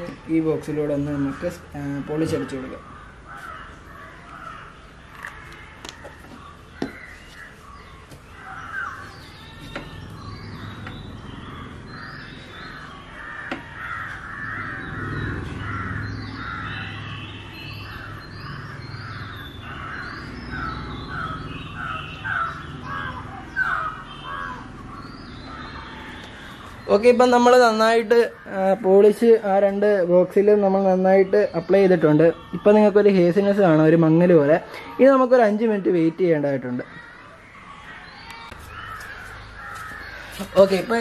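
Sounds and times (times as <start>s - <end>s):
crows cawing: 0.0s - 29.5s, 36.6s - 41.0s.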